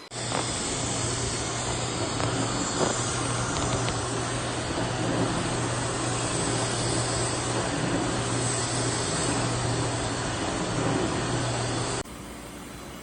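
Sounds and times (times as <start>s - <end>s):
robot vacuum running: 0.0s - 12.0s.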